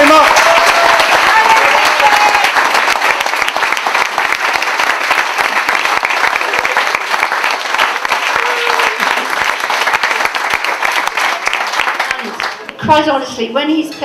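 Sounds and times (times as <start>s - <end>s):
crowd applauding: 0.0s - 12.8s.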